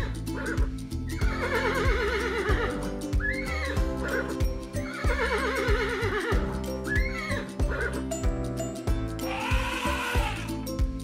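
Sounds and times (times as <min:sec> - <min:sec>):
background music: 0:00.0 - 0:11.0
horse whinnying: 0:00.4 - 0:08.0, 0:09.2 - 0:10.6.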